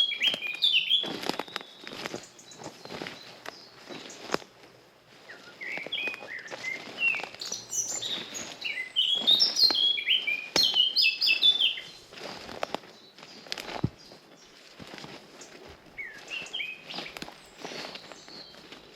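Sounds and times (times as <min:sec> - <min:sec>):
footsteps on forest path: 0:00.0 - 0:18.9
songbird chirping: 0:00.0 - 0:18.9.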